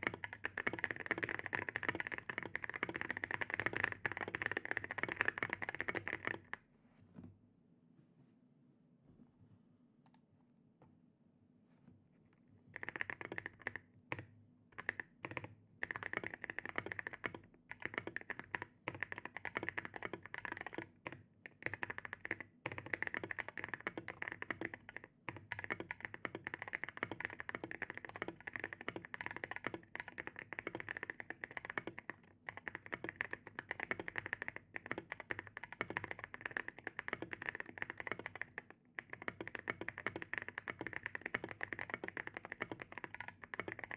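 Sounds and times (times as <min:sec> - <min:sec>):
mechanical keyboard typing: 0:00.0 - 0:06.6, 0:12.8 - 0:43.9.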